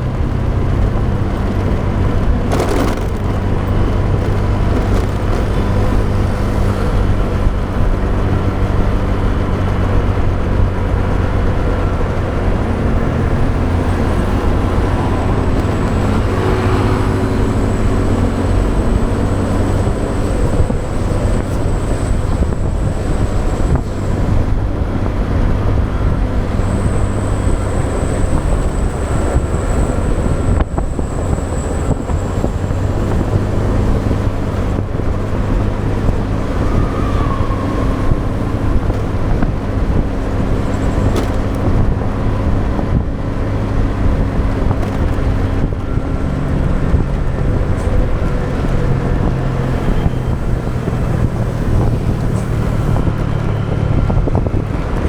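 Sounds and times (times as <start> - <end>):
motorbike engine drone: 0.0 - 55.0
vehicles passing: 0.0 - 55.0
wind rushing on microphone: 0.0 - 55.0.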